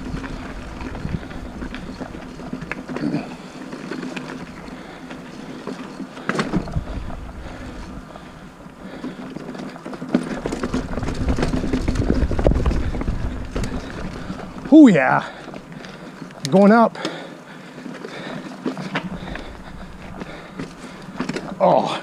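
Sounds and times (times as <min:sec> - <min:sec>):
bike rattles and clicks: 0:00.0 - 0:22.0
bike tyre and wind rumble: 0:00.0 - 0:22.0.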